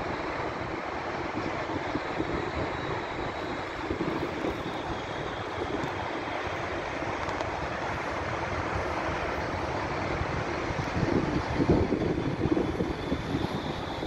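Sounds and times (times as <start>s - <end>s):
tram rolling on rails: 0.0s - 14.0s.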